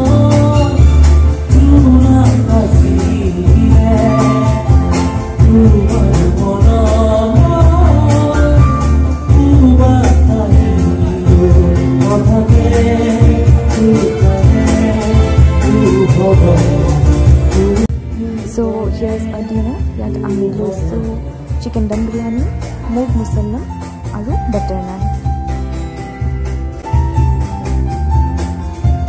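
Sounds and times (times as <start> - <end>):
person singing: 0.0 - 24.7
acoustic guitar: 0.0 - 29.0
heavy bass: 0.0 - 29.0.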